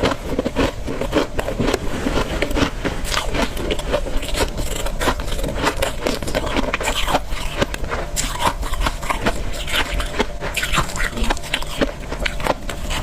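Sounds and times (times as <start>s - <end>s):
chewing crunchy ice: 0.0s - 13.0s.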